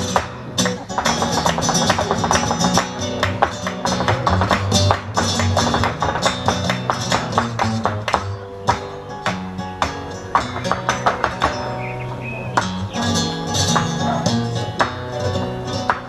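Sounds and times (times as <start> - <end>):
flamenco acoustic guitar strumming: 0.0 - 16.0.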